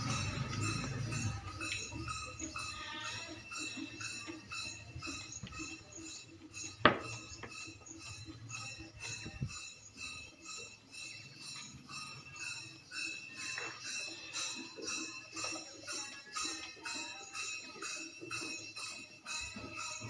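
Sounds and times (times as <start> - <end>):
jingling small percussion: 0.0 - 20.0.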